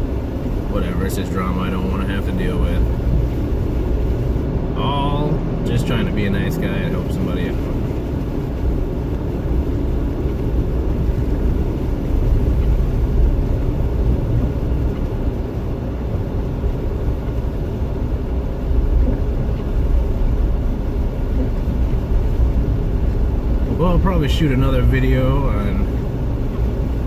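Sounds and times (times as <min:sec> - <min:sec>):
car interior driving rumble: 0:00.0 - 0:27.0.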